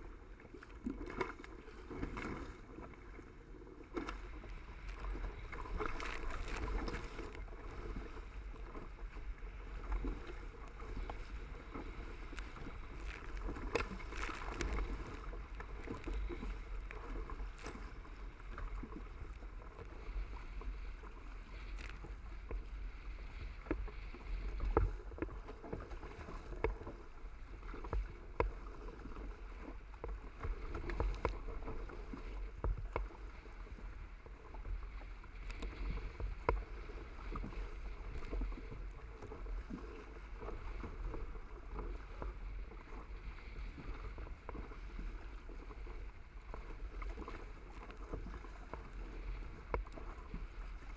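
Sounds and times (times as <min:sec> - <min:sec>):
water rushing along hull: 0:00.0 - 0:50.9
wind rumbling on microphone: 0:00.0 - 0:50.9.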